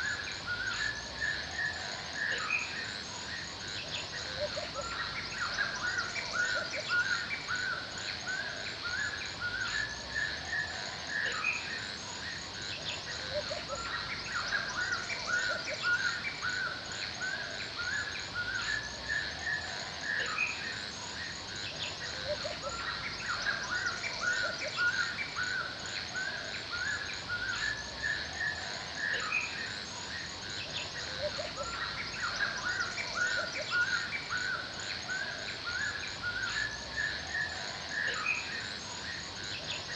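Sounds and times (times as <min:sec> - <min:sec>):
birds chirping: 0:00.0 - 0:39.9
high insect trill: 0:00.0 - 0:39.9.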